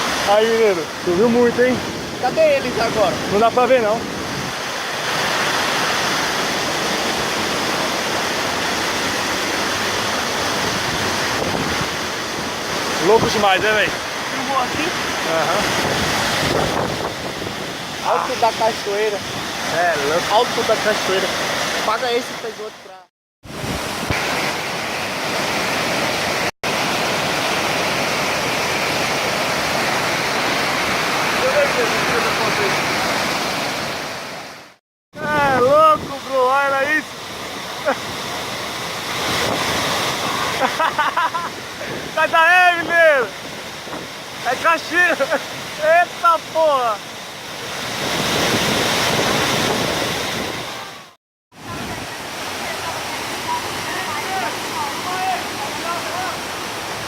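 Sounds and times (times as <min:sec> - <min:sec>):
waterfall rushing: 0:00.0 - 0:22.9, 0:23.5 - 0:57.0.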